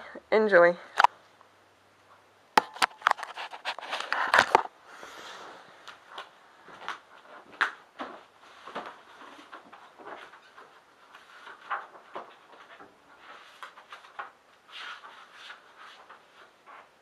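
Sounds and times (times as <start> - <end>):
soft rustling: 2.9 - 17.0.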